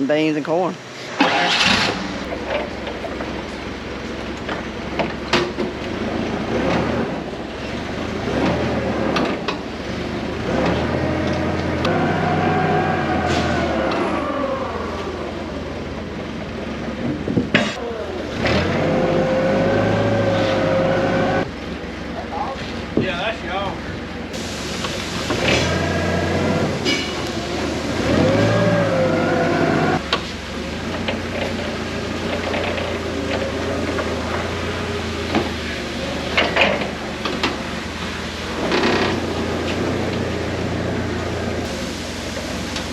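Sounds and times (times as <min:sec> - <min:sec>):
forklift engine whining: 0:01.1 - 0:42.9.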